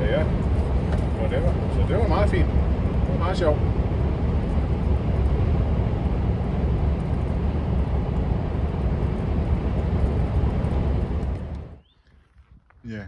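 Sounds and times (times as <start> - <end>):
truck engine rumbling: 0.0 - 12.7.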